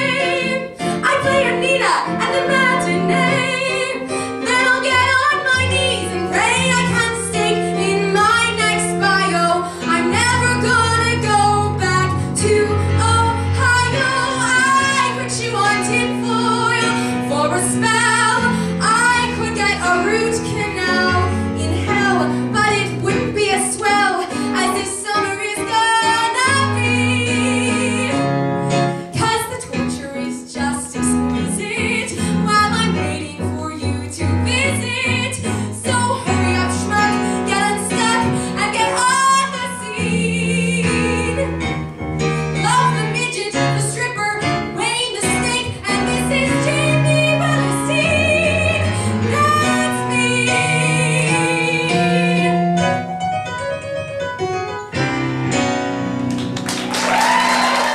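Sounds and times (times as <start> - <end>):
woman singing: 0.0 - 28.4, 29.1 - 41.7, 42.6 - 52.9
keyboard accompaniment: 0.0 - 57.9.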